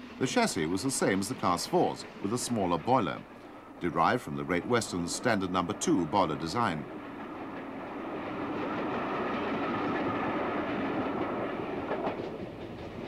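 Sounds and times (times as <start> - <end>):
steam train rolling past: 0.0 - 13.0.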